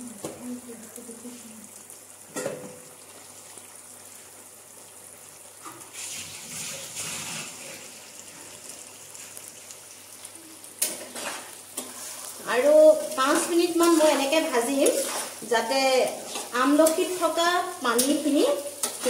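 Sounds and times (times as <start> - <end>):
oil sizzling in a pan: 0.0 - 19.0.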